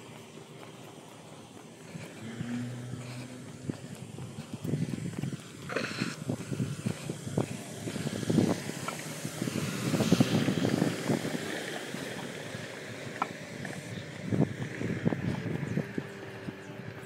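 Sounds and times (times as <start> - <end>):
footsteps walking: 0.0 - 16.1
wind on microphone: 1.9 - 17.0.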